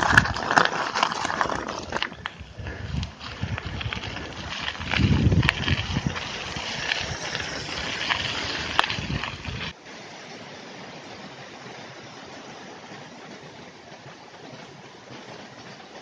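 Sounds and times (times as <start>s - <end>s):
bicycle road noise and wind: 0.0s - 16.0s.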